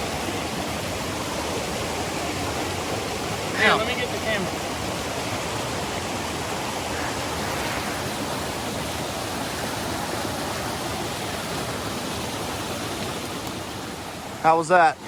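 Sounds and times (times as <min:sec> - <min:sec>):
stream rushing water: 0:00.0 - 0:15.0.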